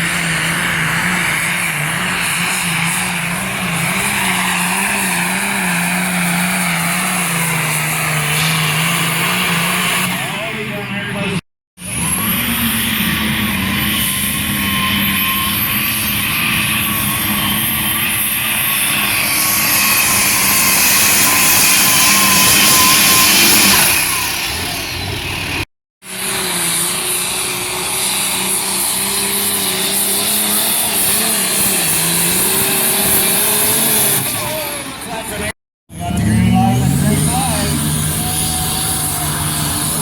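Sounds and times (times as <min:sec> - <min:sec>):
engine at high revs with whine: 0:00.0 - 0:40.0.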